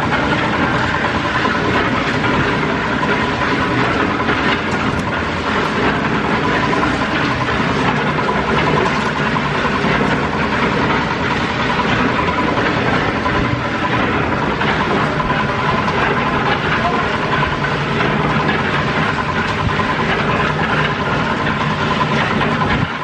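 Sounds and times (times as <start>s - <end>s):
faint pulsing whine: 0.0s - 23.0s
machine rattling clatter: 0.0s - 23.0s.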